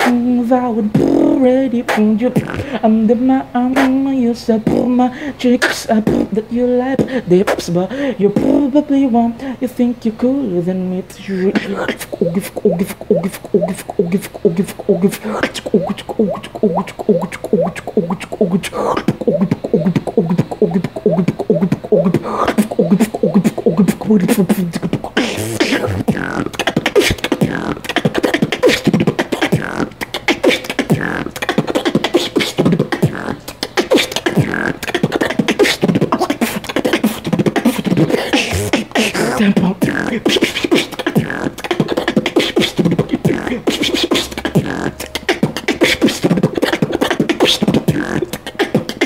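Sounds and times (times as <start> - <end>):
person beatboxing: 0.0 - 9.3, 11.1 - 49.0.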